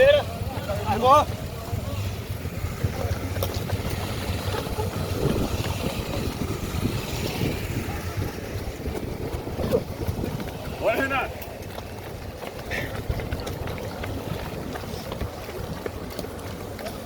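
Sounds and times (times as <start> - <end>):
faint voices: 0.0 - 17.0
low engine rumble: 0.0 - 17.0.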